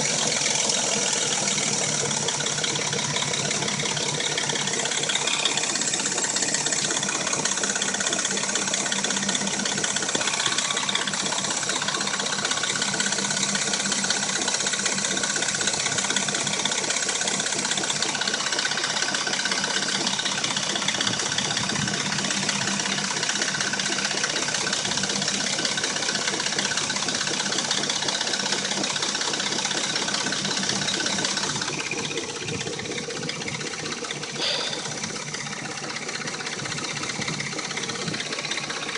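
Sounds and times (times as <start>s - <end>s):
car engine idling with rattle: 0.0s - 38.9s.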